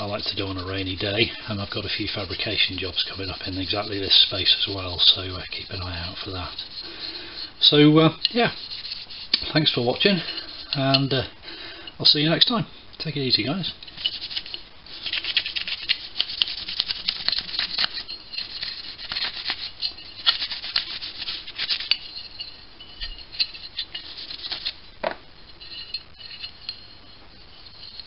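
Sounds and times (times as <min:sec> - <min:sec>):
rag rubbing metal squeaks: 0:00.0 - 0:11.3, 0:13.8 - 0:28.0.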